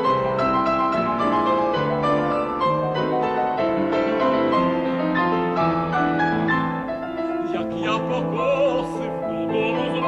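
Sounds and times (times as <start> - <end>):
piano playing chords: 0.0 - 10.0.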